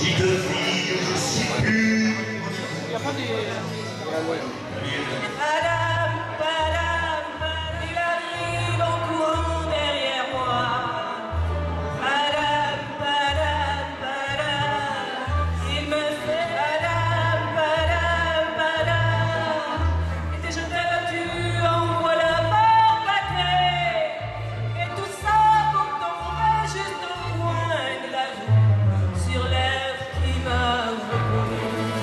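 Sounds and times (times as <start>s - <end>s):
accompanying music with bass: 0.0s - 4.0s, 4.6s - 32.0s
woman singing into microphone: 5.2s - 32.0s.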